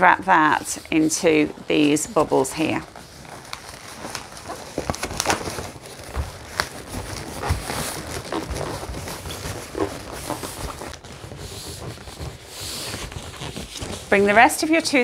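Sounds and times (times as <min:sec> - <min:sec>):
balloons squeaking and rubbing: 0:00.0 - 0:15.0.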